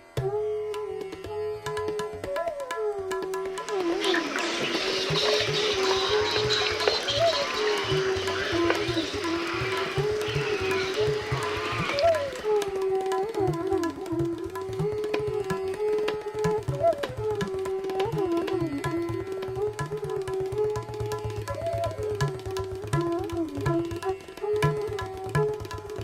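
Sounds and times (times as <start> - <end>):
tabla strokes: 0.0 - 26.0
flute playing gliding melody: 1.6 - 26.0.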